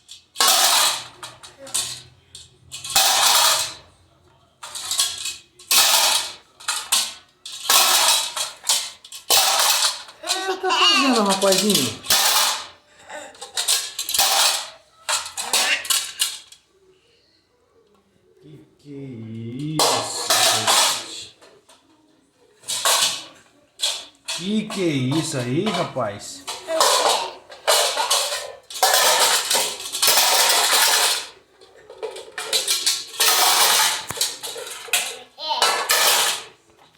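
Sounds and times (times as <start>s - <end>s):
metal pots and pans clanging: 0.0s - 3.9s, 4.6s - 12.8s, 13.4s - 16.5s, 19.8s - 21.6s, 22.6s - 36.7s.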